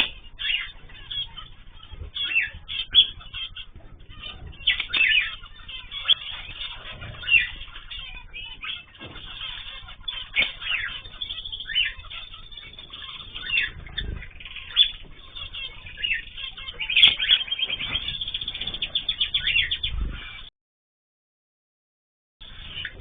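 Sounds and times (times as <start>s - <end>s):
cage birds chirping: 0.0s - 20.5s, 22.4s - 23.0s.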